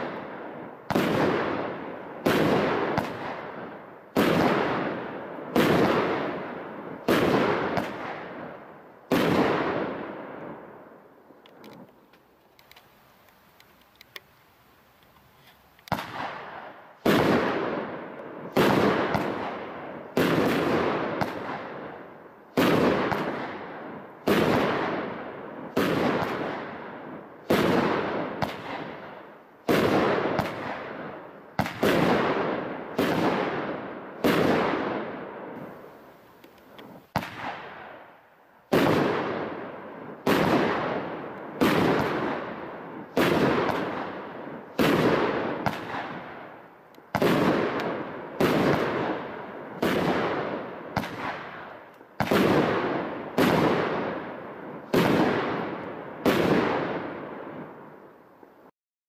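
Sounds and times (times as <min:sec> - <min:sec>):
fireworks bangs: 0:00.0 - 0:13.1, 0:15.2 - 0:58.0.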